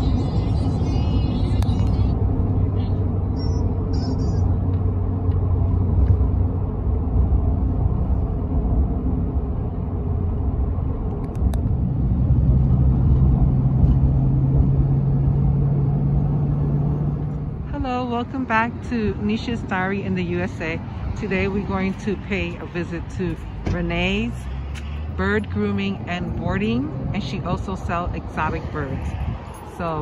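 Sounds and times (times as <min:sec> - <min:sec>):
car engine hum: 0:00.0 - 0:30.0
road noise rumble: 0:00.0 - 0:30.0.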